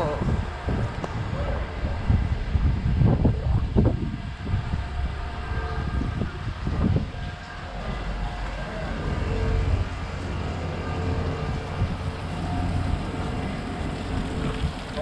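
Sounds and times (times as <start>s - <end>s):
vehicle rumble: 0.0s - 15.0s
wind noise on microphone: 0.0s - 15.0s.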